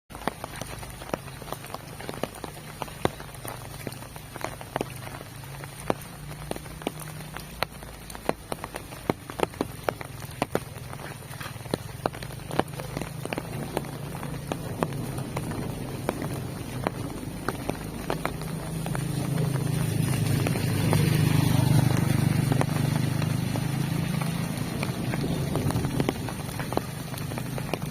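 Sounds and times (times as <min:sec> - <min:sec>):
heavy rain falling: 0:00.1 - 0:27.9
raindrop hits: 0:00.1 - 0:27.9.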